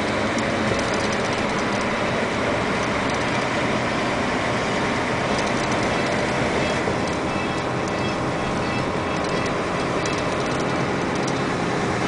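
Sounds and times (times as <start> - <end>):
tyre and road noise: 0.0 - 12.0
vehicle engine running: 0.0 - 12.0.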